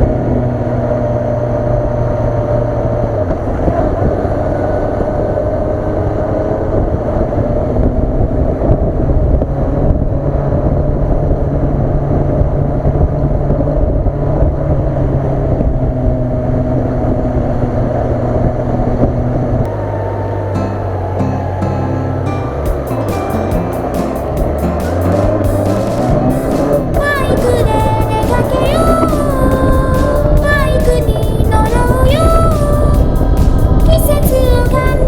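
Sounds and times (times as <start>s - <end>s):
wind rushing over microphone: 0.0s - 19.8s, 23.6s - 35.0s
motorcycle engine cruising: 0.0s - 35.0s.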